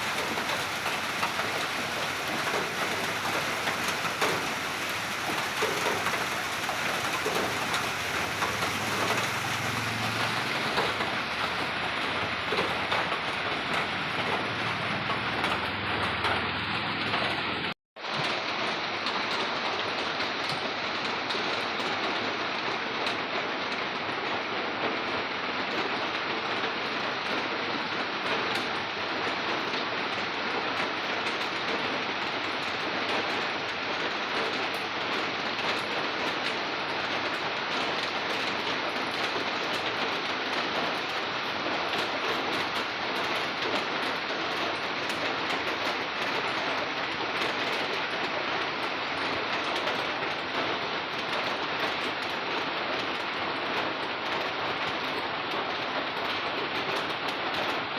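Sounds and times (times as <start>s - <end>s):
rain pattering on surfaces: 0.0s - 57.9s.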